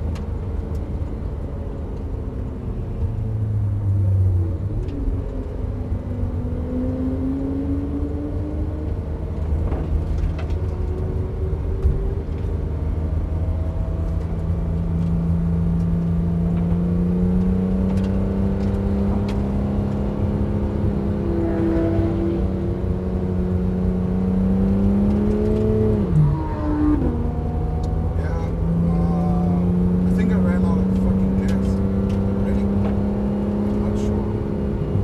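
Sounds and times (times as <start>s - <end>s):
car engine from inside cabin: 0.0s - 35.0s.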